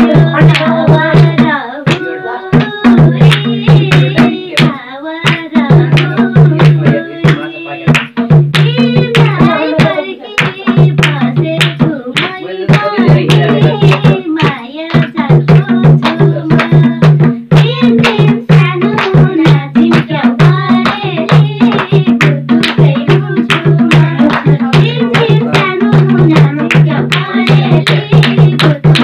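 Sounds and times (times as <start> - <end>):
hand drum rhythm: 0.0 - 29.0
women singing together: 0.0 - 29.0.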